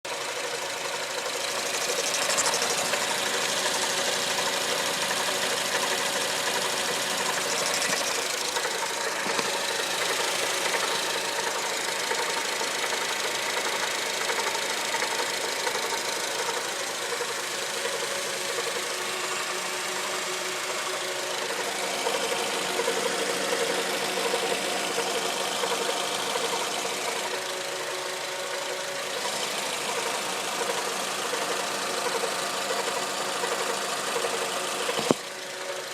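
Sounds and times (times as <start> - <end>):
car engine running: 0.1 - 35.9.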